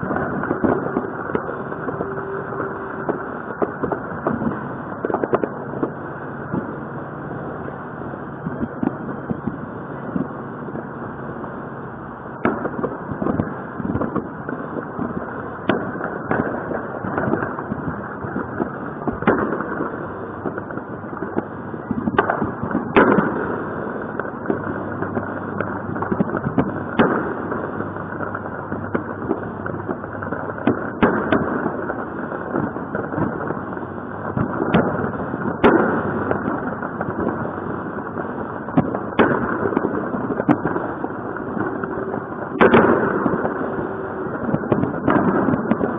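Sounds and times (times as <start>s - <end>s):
distant fireworks rumble and crackle: 0.0s - 45.9s
firework bangs: 0.0s - 45.9s.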